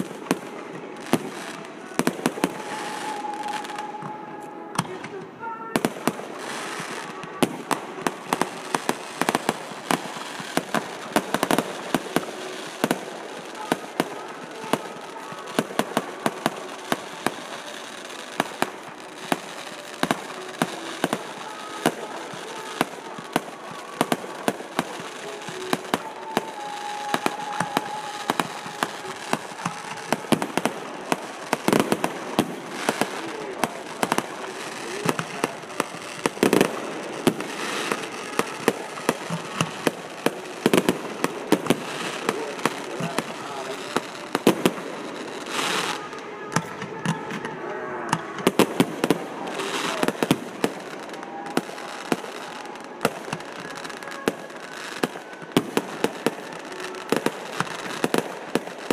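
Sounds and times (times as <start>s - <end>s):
fireworks bangs and pops: 0.0s - 58.9s.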